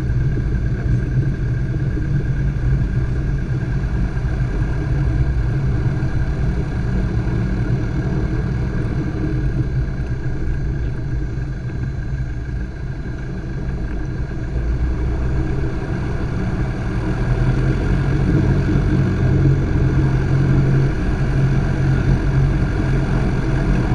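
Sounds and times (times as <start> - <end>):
light aircraft engine and propeller: 0.0 - 23.9.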